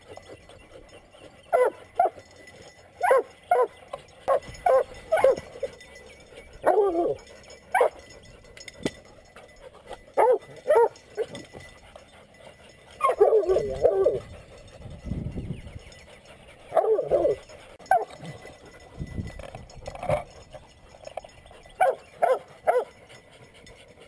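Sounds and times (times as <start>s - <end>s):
dogs barking: 0.0s - 14.9s, 15.7s - 18.8s, 19.4s - 24.0s.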